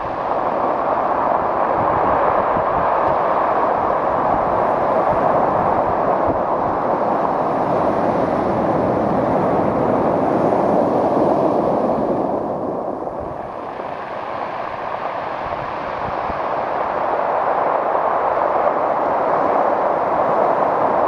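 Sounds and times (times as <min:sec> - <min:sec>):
surf breaking on beach: 0:00.0 - 0:21.0.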